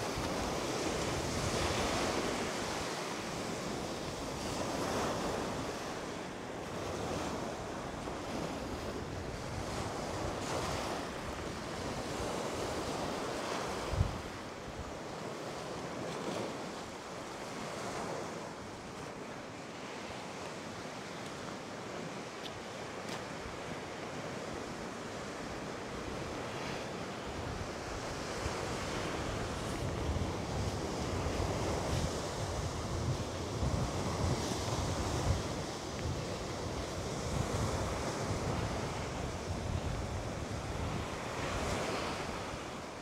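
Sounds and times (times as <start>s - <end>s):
wind on microphone: 0.0s - 19.4s, 21.1s - 43.0s
waves breaking on shore: 0.0s - 43.0s.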